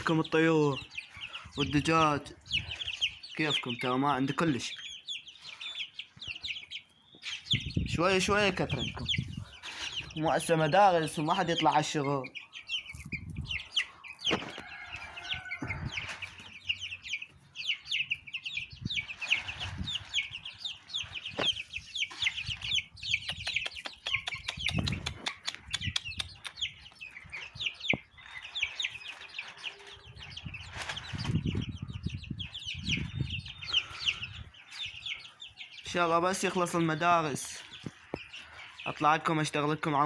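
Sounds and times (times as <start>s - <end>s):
chicks cheeping: 0.0s - 40.0s.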